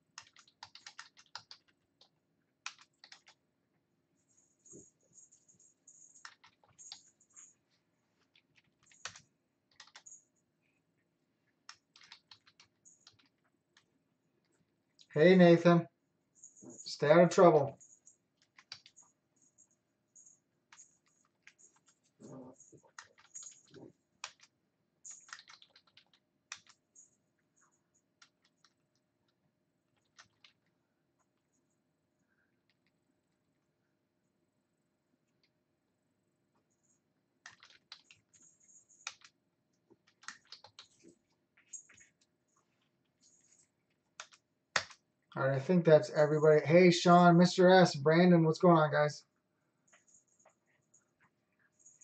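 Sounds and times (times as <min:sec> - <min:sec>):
faint keyboard typing: 0:00.0 - 0:15.5, 0:16.3 - 0:33.9, 0:35.1 - 0:35.7, 0:36.3 - 0:52.0.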